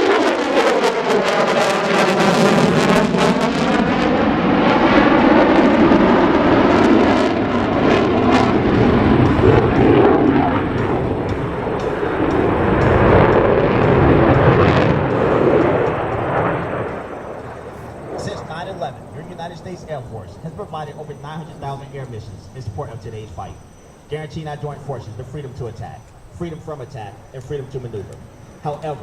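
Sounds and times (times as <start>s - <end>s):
loud jet roar: 0.0s - 29.0s.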